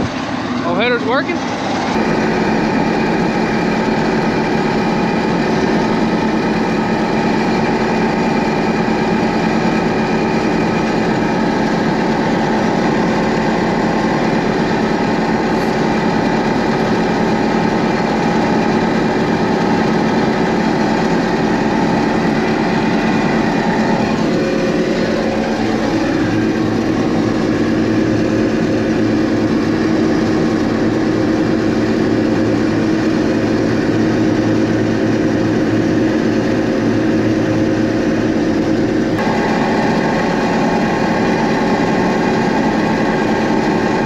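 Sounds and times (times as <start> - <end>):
combine engine running: 0.0 - 44.0
threshing machinery noise: 0.0 - 44.0.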